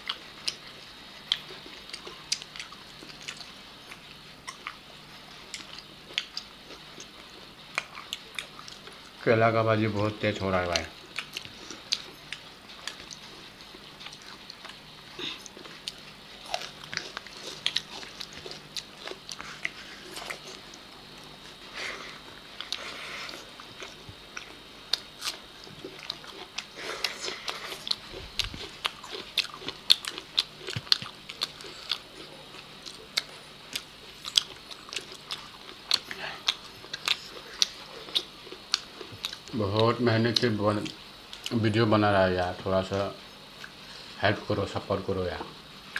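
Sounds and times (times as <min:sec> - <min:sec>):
people chewing food: 0:00.0 - 0:45.9.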